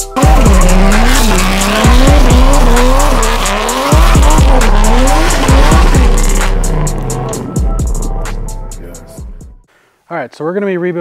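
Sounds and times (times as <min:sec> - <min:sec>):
car engine revving: 0:00.0 - 0:09.4
hip-hop music: 0:00.0 - 0:09.7.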